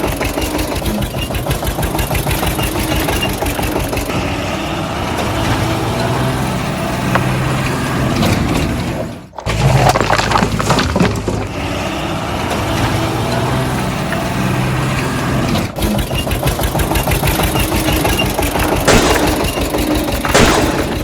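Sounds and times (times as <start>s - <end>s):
diesel engine idling with knock: 0.0s - 21.0s
engine humming: 0.0s - 21.0s.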